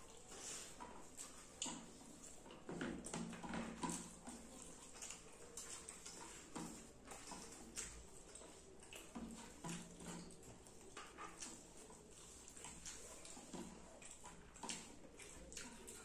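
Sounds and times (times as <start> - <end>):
wet mouth chewing smacks: 0.0 - 16.0.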